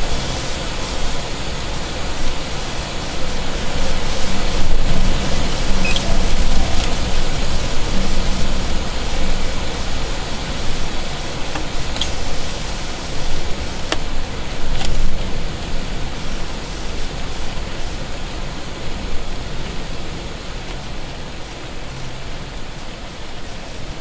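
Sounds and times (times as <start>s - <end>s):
loud rushing noise: 0.0s - 24.0s.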